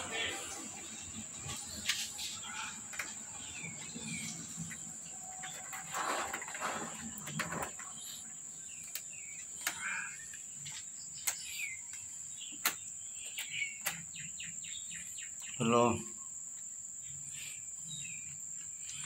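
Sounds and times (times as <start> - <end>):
bird chirps: 0.0 - 5.7, 7.0 - 19.0.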